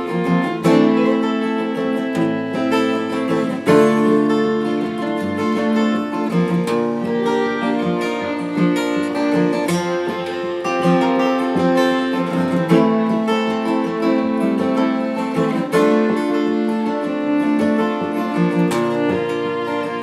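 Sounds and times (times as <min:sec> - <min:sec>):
acoustic guitars strumming: 0:00.0 - 0:20.0
fiddle melody: 0:00.0 - 0:20.0.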